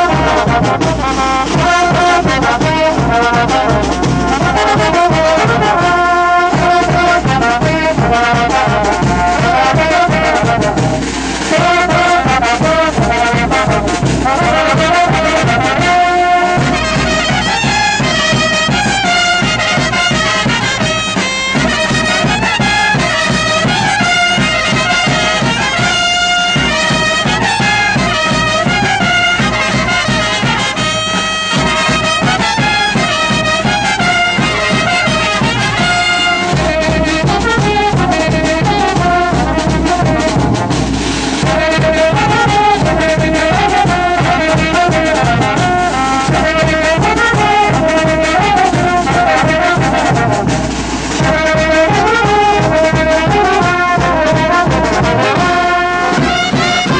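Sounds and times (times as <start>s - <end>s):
brass band playing dance tune: 0.0s - 56.9s
steady drum beat: 0.0s - 56.9s.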